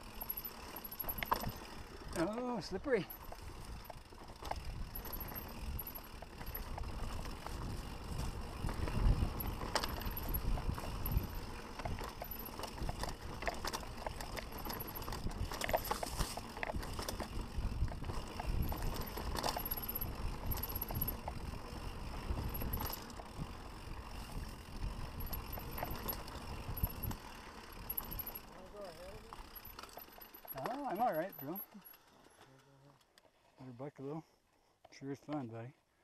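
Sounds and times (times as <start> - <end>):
bike tyres rumbling on trail: 0.0 - 31.3
bike knocking and rattling: 0.0 - 32.5.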